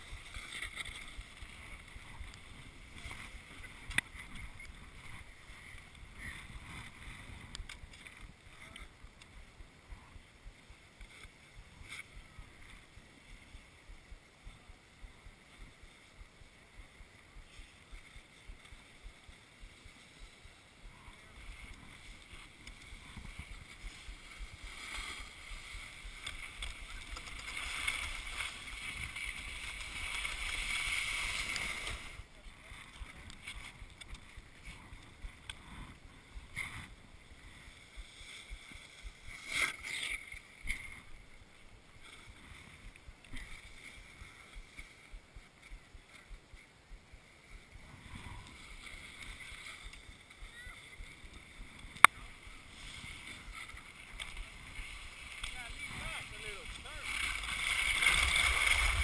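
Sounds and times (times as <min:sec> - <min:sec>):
wind rumbling on microphone: 0:00.0 - 0:39.3, 0:40.5 - 0:59.0
snowboard sliding over snow: 0:00.0 - 0:59.0.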